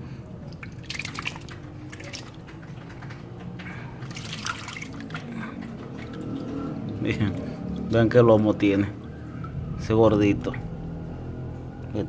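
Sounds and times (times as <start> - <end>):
water splashing and dripping: 0.3 - 11.1.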